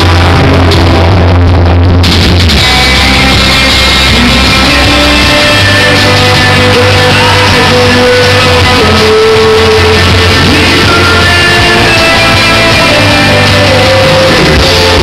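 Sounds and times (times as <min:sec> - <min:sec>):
drums: 0:00.0 - 0:15.0
electric guitars: 0:00.0 - 0:15.0
man singing: 0:02.6 - 0:15.0.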